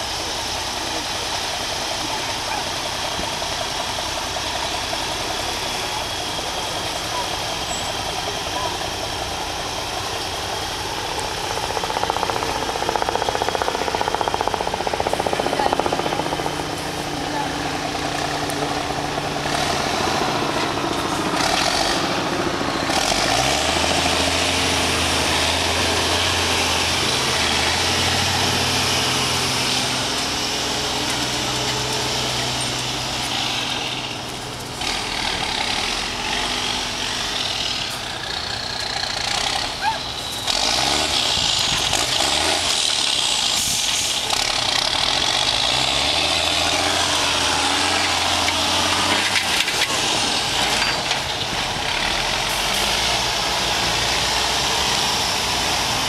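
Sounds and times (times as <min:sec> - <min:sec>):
diesel truck engine working hard: 0:00.0 - 0:56.0.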